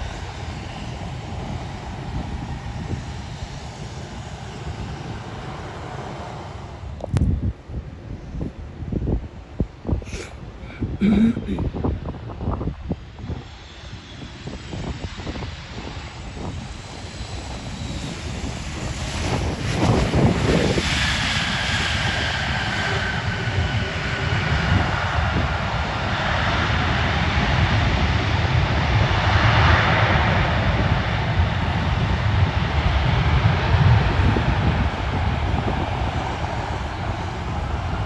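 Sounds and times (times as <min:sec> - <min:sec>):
aircraft engines running: 0:00.0 - 0:38.0.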